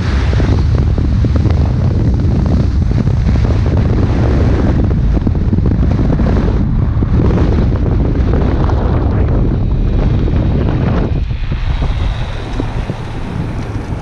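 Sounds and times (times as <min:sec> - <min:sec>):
road and engine noise: 0:00.0 - 0:14.0
wind buffeting microphone: 0:00.0 - 0:14.0.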